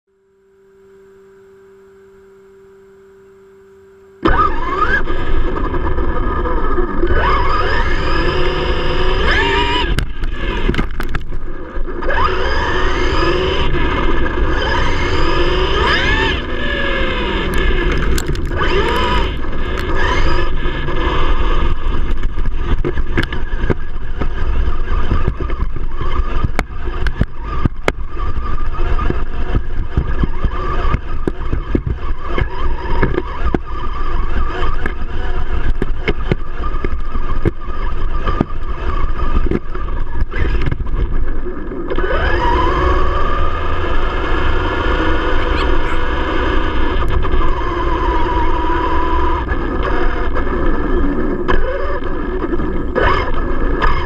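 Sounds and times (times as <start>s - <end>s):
electric motor whine: 0.1s - 54.0s
faint steady hum: 0.1s - 54.0s
wind: 0.1s - 54.0s
gear noise: 4.2s - 54.0s.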